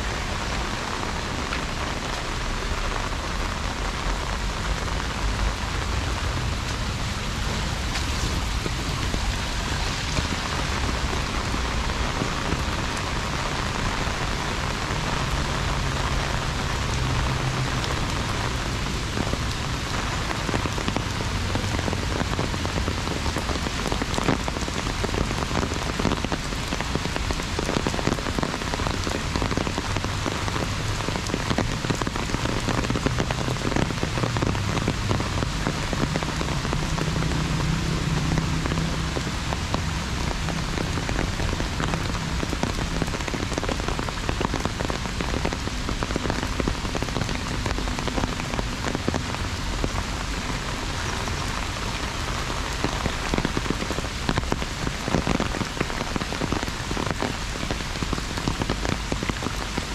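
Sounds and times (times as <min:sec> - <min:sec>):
heavy rain on an umbrella: 0:00.0 - 0:59.9.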